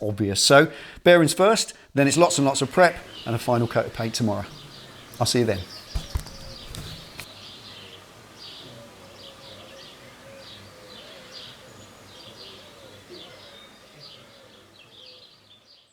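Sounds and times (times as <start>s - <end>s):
low steady background noise: 0.0s - 15.9s
small birds chirping: 1.8s - 15.9s.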